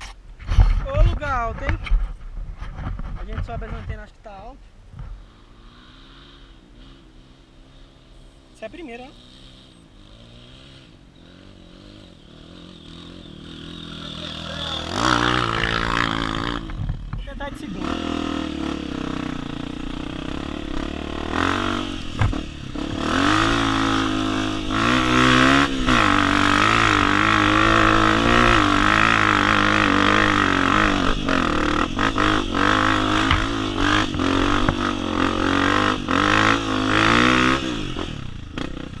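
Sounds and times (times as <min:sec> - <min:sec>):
motorcycle engine revving: 0:05.0 - 0:39.0.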